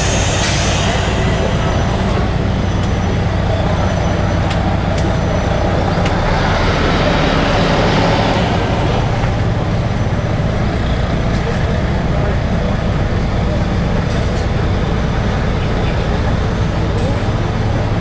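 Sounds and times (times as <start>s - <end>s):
low engine rumble: 0.0s - 18.0s
road noise: 0.0s - 18.0s.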